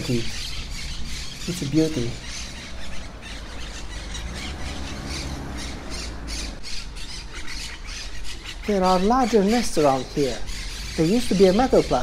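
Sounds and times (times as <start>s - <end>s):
parakeets squawking: 0.0s - 12.0s.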